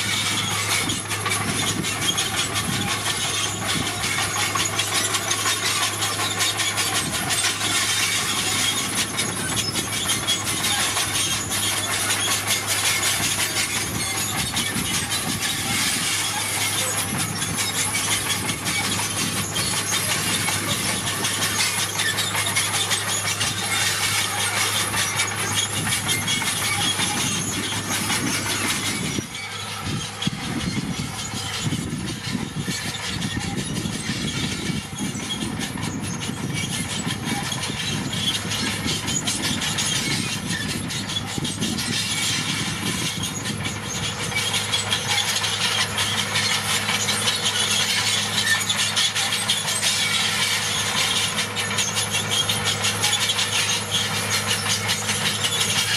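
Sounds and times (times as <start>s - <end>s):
crawler tracks clattering: 0.0s - 55.9s
diesel engine running: 0.0s - 55.9s.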